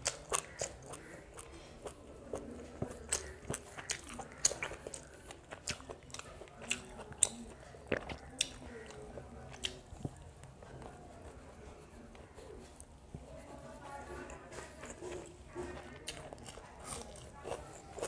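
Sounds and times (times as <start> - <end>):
close chewing with mouth clicks: 0.0 - 18.0.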